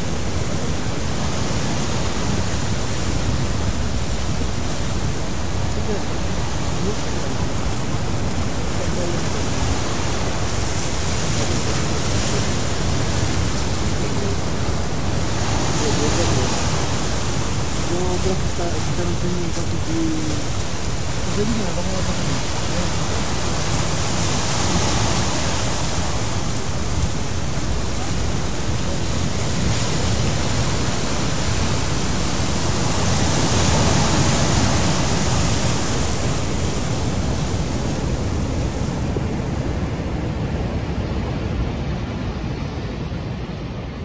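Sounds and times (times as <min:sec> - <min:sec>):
heavy surf breaking: 0:00.0 - 0:44.0
wind on microphone: 0:00.0 - 0:44.0.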